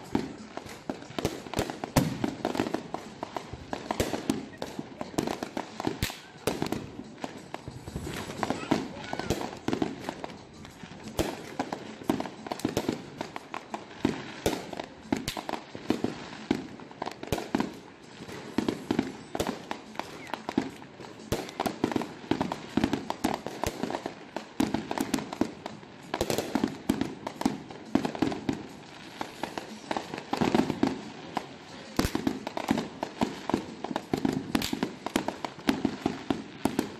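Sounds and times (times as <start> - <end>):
fireworks bangs and crackling pops: 0.0 - 36.9.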